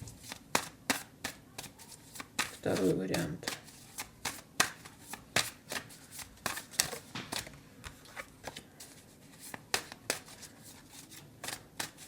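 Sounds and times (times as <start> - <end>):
cards being shuffled: 0.2 - 12.0.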